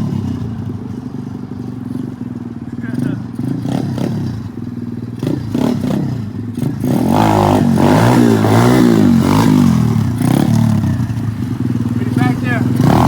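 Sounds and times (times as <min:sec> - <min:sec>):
dirt bike engine revving: 0:01.9 - 0:13.0.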